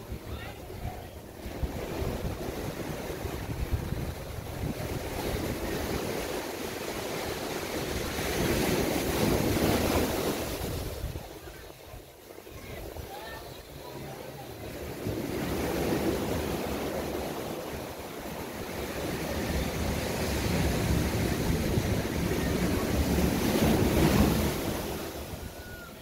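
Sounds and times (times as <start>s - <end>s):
surf breaking on shore: 0.0s - 26.0s.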